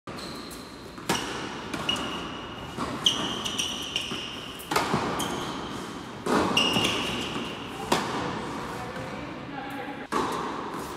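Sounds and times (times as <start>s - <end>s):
shoes squeaking on court: 0.1s - 10.9s
racket striking tennis ball: 0.5s - 9.2s, 10.1s - 10.9s
tennis ball bouncing: 0.5s - 9.2s, 10.1s - 10.9s.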